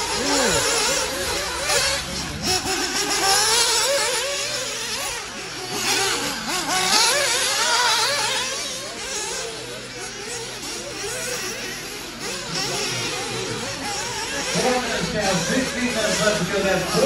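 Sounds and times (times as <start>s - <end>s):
toy car motors whining: 0.0s - 17.0s.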